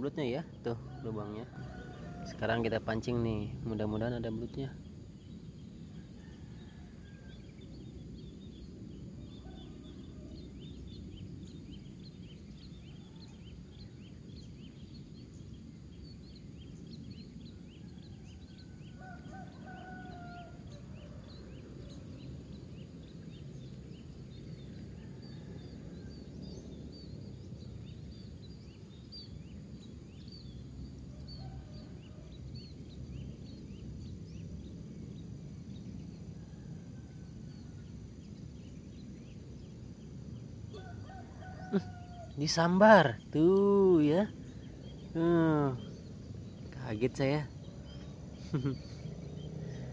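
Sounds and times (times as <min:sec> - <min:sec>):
high insect trill: 0:00.0 - 0:49.9
steady low rumble: 0:00.0 - 0:49.9.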